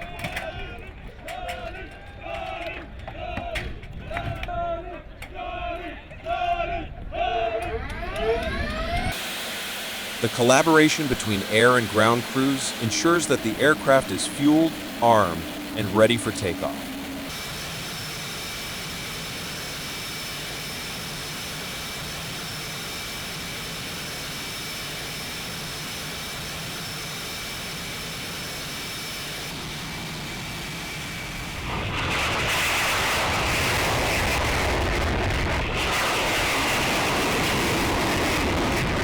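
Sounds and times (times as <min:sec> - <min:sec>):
fighter jet engine whining: 0:06.7 - 0:39.0.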